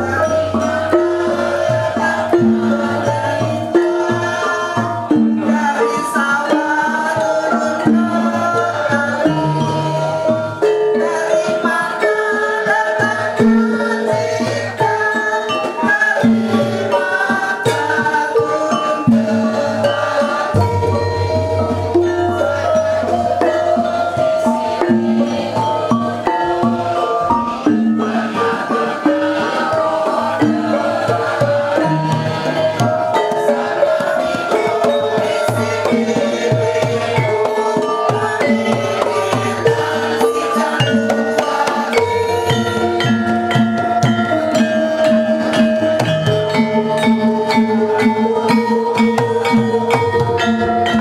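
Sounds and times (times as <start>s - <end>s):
drum strokes: 0.0s - 51.0s
metallophones ringing melody: 0.0s - 51.0s.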